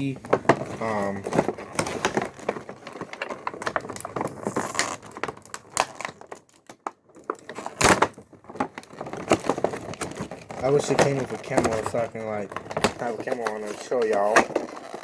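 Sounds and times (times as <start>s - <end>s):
plastic crinkling: 0.0s - 15.0s.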